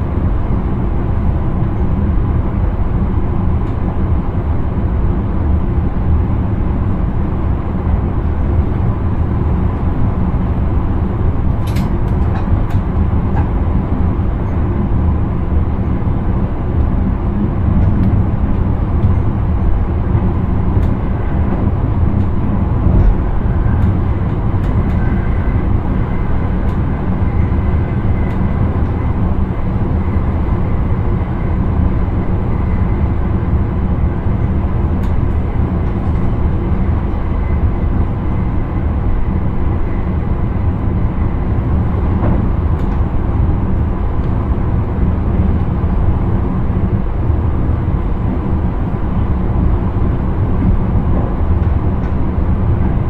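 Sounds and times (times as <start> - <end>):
train wheels and motors rumbling: 0.0 - 53.0.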